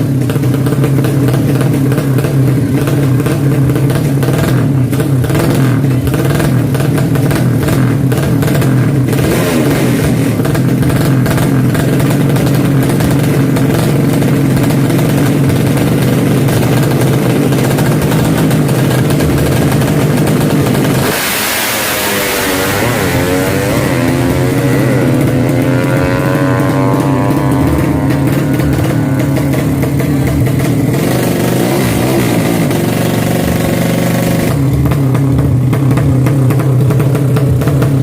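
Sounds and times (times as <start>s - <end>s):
motorcycle engine at high revs: 0.0s - 38.0s.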